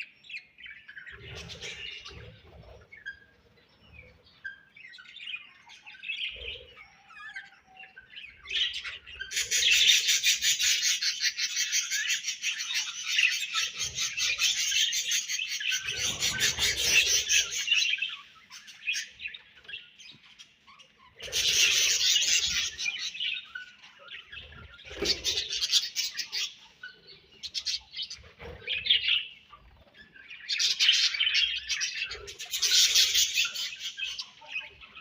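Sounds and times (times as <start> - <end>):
budgerigars chirping: 0.2 - 35.0.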